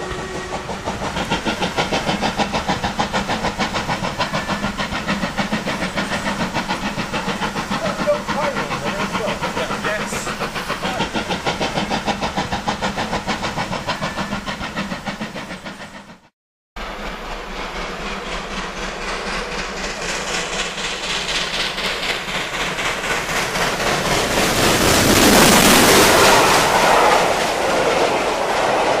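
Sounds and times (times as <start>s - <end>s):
steam hiss: 0.0s - 29.0s
steam locomotive exhaust beats: 0.0s - 29.0s
train rail noise: 0.0s - 29.0s.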